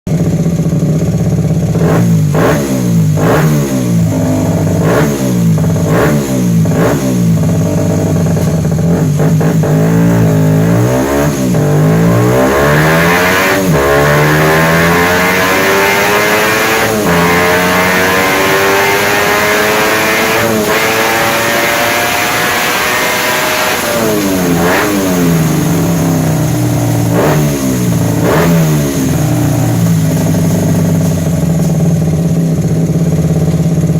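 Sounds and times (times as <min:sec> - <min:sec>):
mini-bike engine revving: 0:00.1 - 0:33.9.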